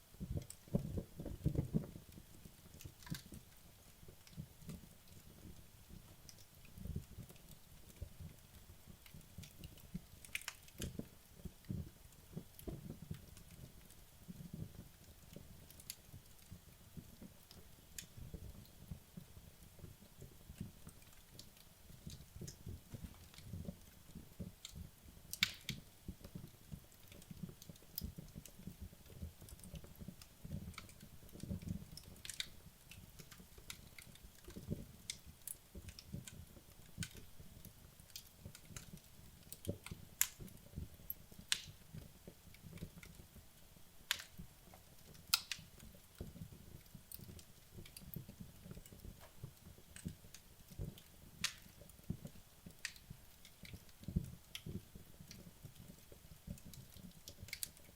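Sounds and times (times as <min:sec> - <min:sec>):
logs crackling and popping: 0:00.0 - 0:57.9
low rumble of flames: 0:00.1 - 0:57.9.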